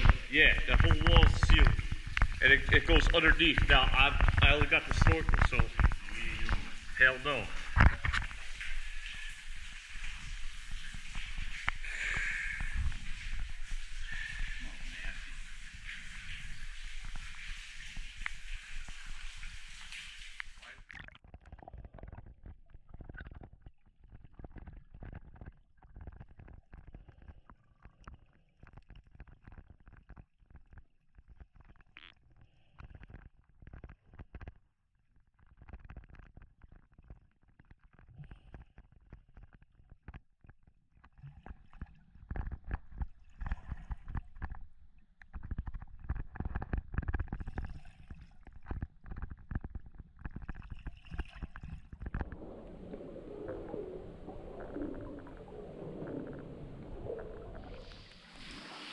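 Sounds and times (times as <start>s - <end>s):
underwater knocks and rumbling: 0.0s - 32.2s, 35.2s - 58.6s.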